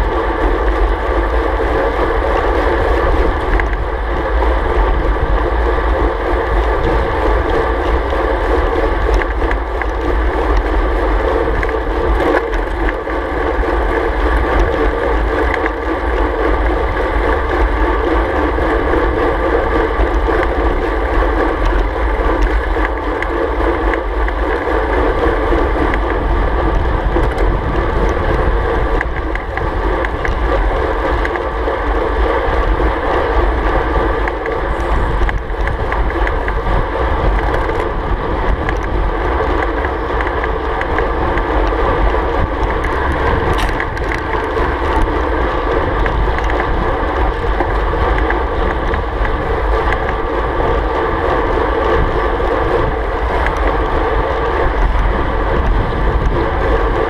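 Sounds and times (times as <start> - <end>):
bicycle road noise: 0.0 - 57.0
wind rush: 0.0 - 57.0.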